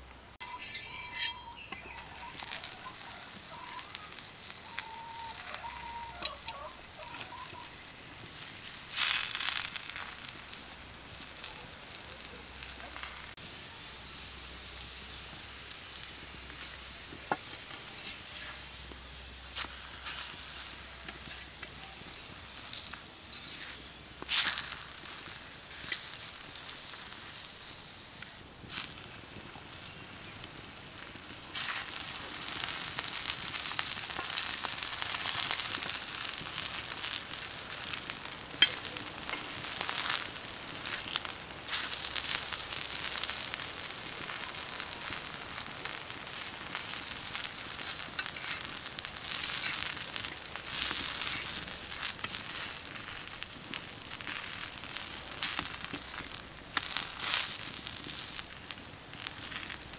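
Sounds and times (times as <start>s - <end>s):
flatbread sizzling in oil: 0.3s - 59.9s.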